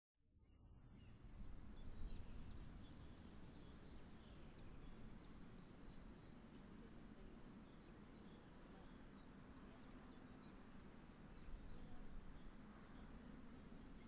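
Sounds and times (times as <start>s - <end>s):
small birds chirping: 0.8s - 14.0s.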